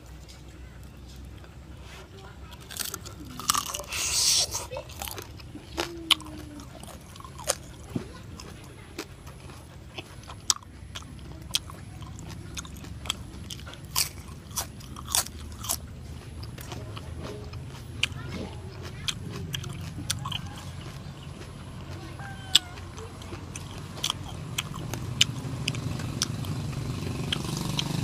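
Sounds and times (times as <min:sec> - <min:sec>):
open-mouthed chewing with crunches: 0:00.0 - 0:28.0
loud bite: 0:02.4 - 0:28.0.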